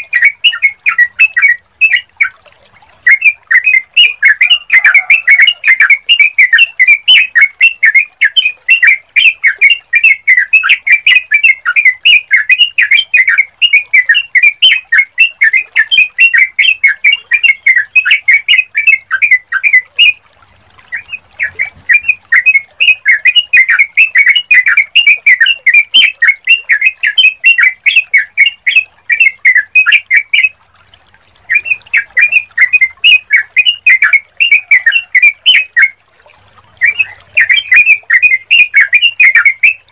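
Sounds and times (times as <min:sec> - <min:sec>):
bird chirping song: 0:00.0 - 0:20.2, 0:20.9 - 0:30.7, 0:31.5 - 0:36.0, 0:36.8 - 0:39.9.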